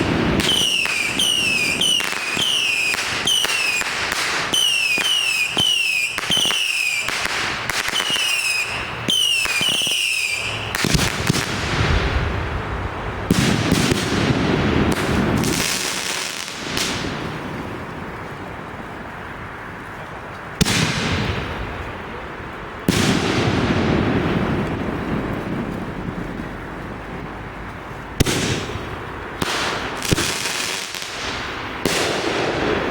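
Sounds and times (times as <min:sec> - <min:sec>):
sharp loud firework reports: 0:00.0 - 0:17.8, 0:20.6 - 0:22.1, 0:22.8 - 0:26.6, 0:28.2 - 0:32.9
firework bangs and crackling: 0:00.0 - 0:18.4, 0:20.6 - 0:32.9
whistling fireworks: 0:00.0 - 0:18.4, 0:20.6 - 0:32.9.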